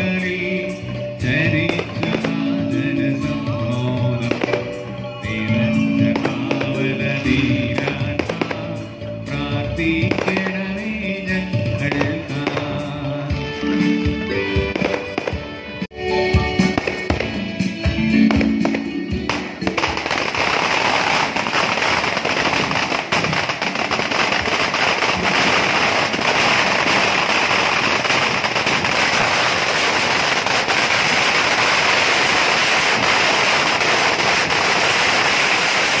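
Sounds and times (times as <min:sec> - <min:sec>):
firecrackers crackling: 0:01.4 - 0:02.7, 0:03.7 - 0:15.6, 0:16.6 - 0:36.0.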